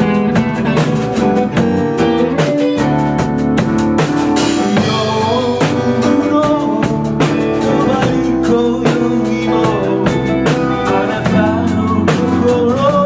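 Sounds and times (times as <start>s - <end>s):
drum kit beat: 0.0s - 13.0s
guitar: 0.0s - 13.0s.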